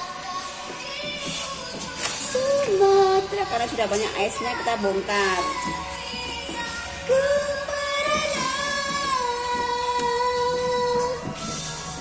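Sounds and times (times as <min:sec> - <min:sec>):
woman singing slow pop song: 0:00.0 - 0:12.0.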